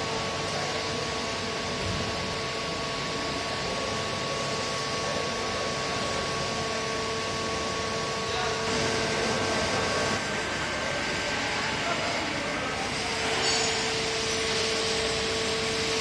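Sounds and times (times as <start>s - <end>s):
circular saw machine whining hum: 0.0s - 16.0s.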